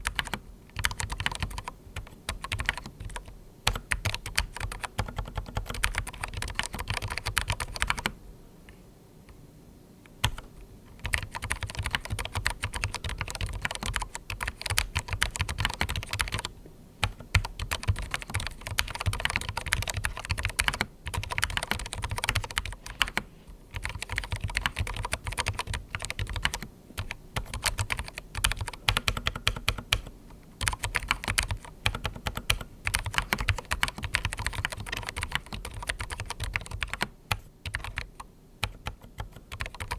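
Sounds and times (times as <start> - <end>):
fast keyboard typing: 0.0 - 8.2, 10.2 - 39.9.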